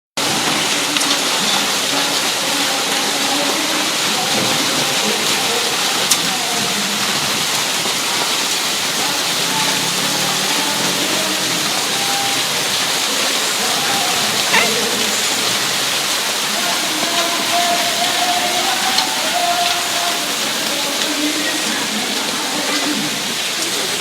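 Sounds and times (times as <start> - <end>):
hail pattering on surfaces: 0.2 - 24.0.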